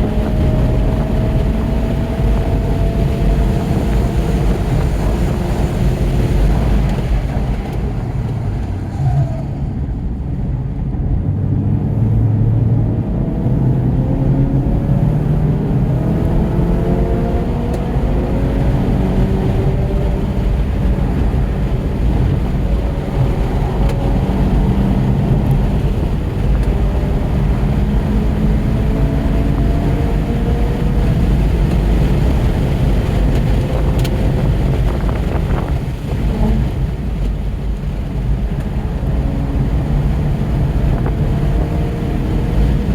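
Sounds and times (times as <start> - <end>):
car engine revving hard: 0.0 - 7.5, 11.2 - 42.9
road and wind noise: 0.0 - 42.9.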